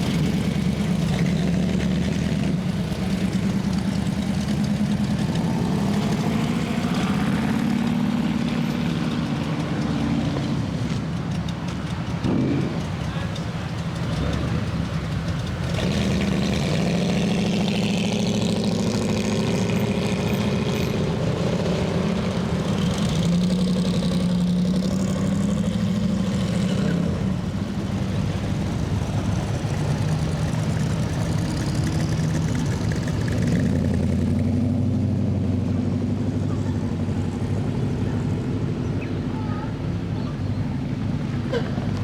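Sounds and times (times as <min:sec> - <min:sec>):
car engines rumbling: 0:00.0 - 0:42.0.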